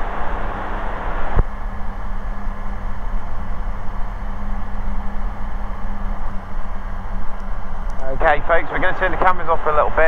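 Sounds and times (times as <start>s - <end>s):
aircraft engine and propeller drone: 0.0s - 10.0s.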